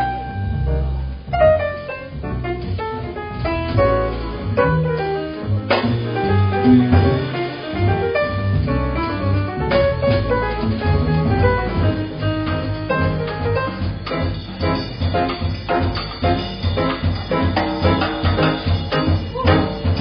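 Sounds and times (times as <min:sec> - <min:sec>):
double bass: 0:00.0 - 0:20.0
drum kit strikes: 0:00.0 - 0:20.0
grand piano playing jazz: 0:00.0 - 0:20.0.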